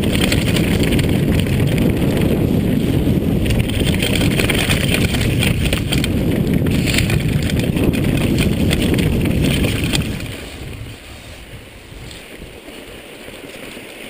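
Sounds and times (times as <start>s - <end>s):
bike chain and frame rattle: 0.0s - 14.0s
bike tyre rumble: 0.0s - 14.0s
wind buffeting microphone: 0.0s - 14.0s.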